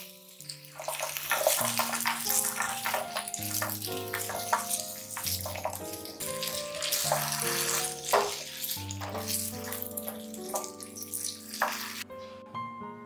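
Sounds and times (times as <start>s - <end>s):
potatoes sizzling in oil: 0.0s - 12.0s
instrumental background music: 0.0s - 13.0s
spatula scraping pan: 0.6s - 12.0s.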